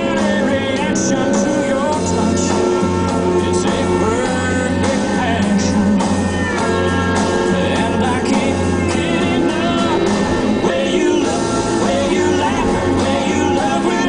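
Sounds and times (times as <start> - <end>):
person singing: 0.0 - 14.0
rock music: 0.0 - 14.0.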